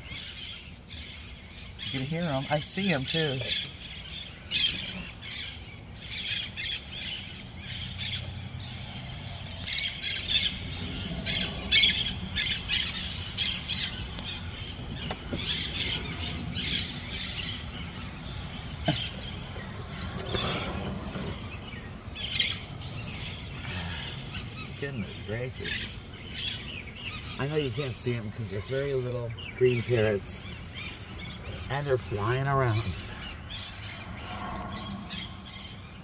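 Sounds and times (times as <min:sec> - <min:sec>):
parrots squawking: 0:00.0 - 0:21.5, 0:22.1 - 0:36.0.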